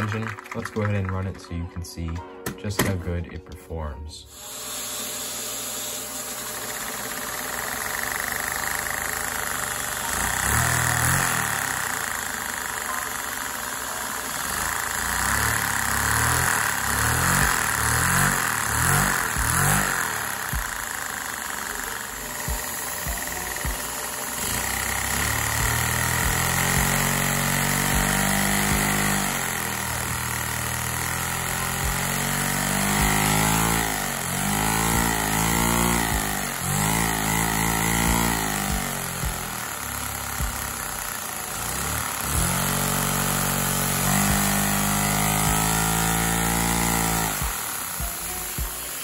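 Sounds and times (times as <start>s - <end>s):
vacuum cleaner whine: 4.2s - 49.0s
small engine mechanical chatter: 4.3s - 49.0s.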